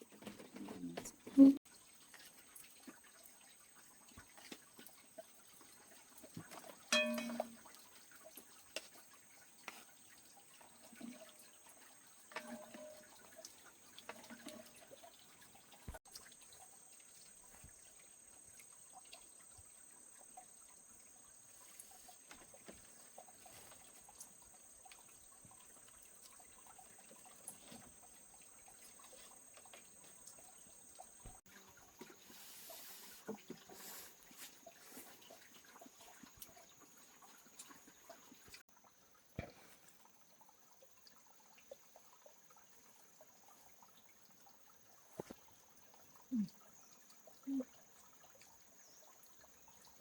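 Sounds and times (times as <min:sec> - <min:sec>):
water trickling and dripping: 0:00.0 - 0:50.0.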